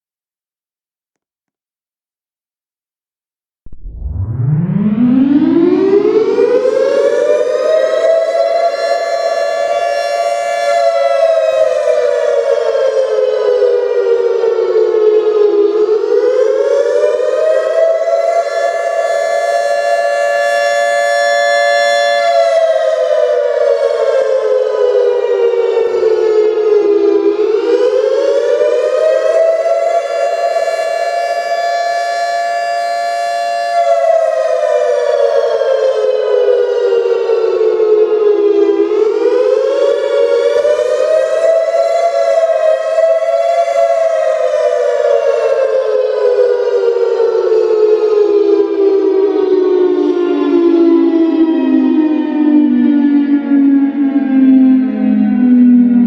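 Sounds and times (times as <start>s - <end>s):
warning siren wailing: 3.7s - 56.0s.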